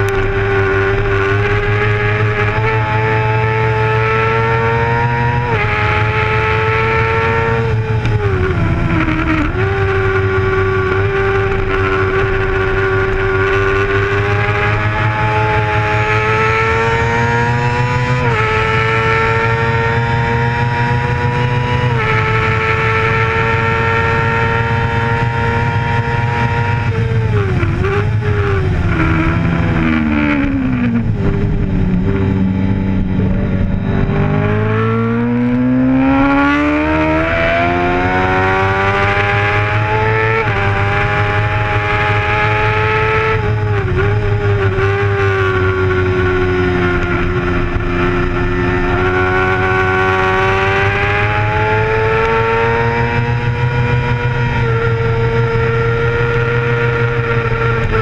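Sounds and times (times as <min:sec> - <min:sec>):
sport bike engine revving: 0:00.0 - 0:58.0
wind rush over microphone: 0:05.2 - 0:58.0.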